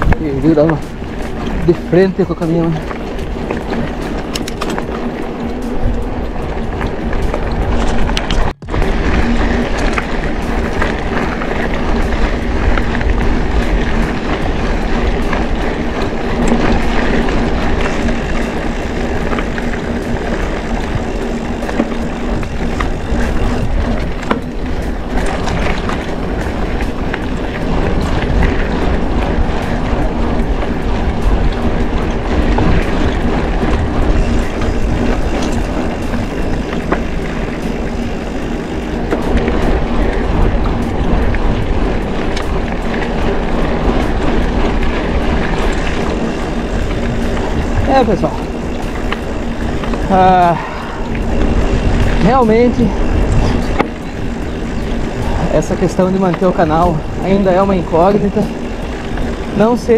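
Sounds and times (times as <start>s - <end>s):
bike rattling: 0.0s - 59.9s
bike tyres rumbling on dirt: 0.0s - 59.9s
wind on microphone: 0.0s - 59.9s.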